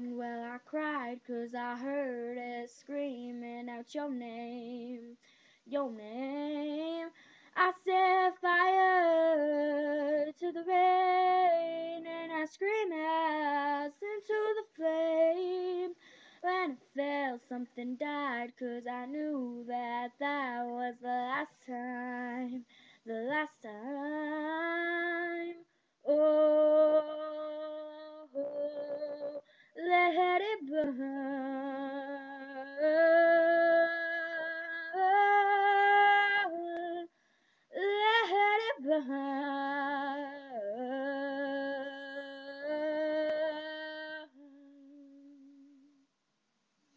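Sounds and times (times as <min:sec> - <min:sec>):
woman singing unaccompanied: 0:00.0 - 0:46.0.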